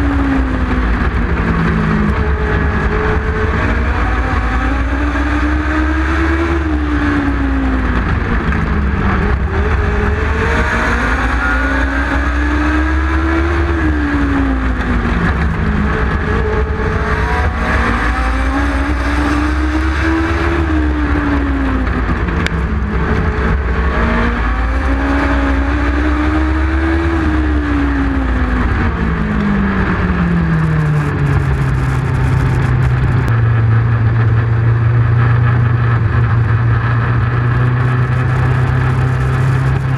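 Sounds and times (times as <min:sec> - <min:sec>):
other race cars: 0:00.0 - 0:39.9
race car engine: 0:00.0 - 0:39.9.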